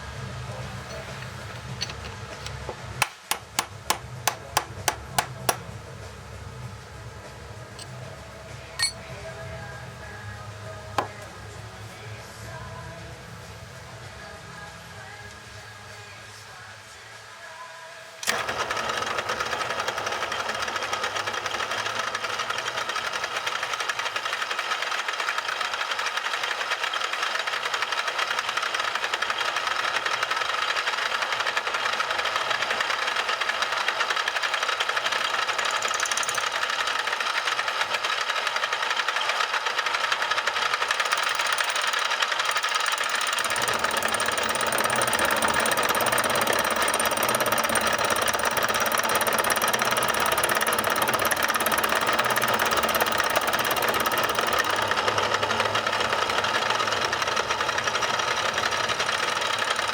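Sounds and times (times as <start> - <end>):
power tool running: 0.0 - 6.0, 11.0 - 11.4, 18.2 - 59.9.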